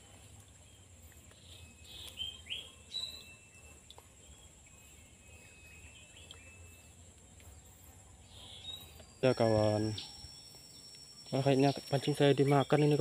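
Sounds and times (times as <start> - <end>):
birds chirping: 0.0 - 13.0
high-pitched background hum: 0.0 - 13.0.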